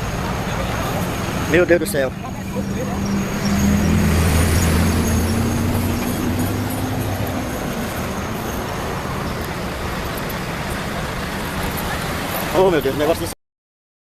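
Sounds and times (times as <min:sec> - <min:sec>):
heavy vehicle engine humming: 0:00.0 - 0:13.4
traffic noise: 0:00.0 - 0:13.4.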